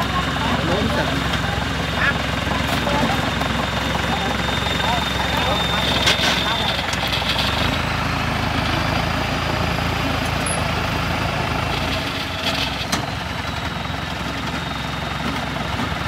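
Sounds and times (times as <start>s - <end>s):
tracked carrier engine running: 0.0s - 16.0s.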